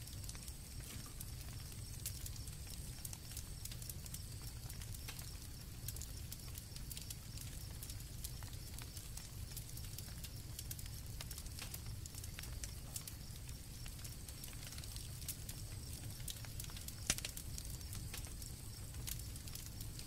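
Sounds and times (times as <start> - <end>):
campfire crackling: 0.0 - 20.0
crickets chirping: 0.0 - 20.0.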